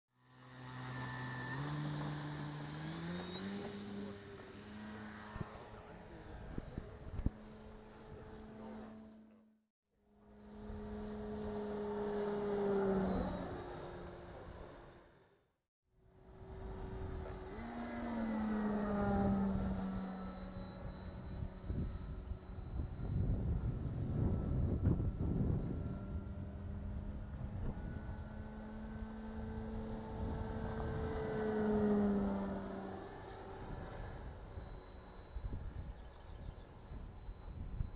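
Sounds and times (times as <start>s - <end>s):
model airplane propeller humming: 0.2s - 15.4s, 16.0s - 37.9s.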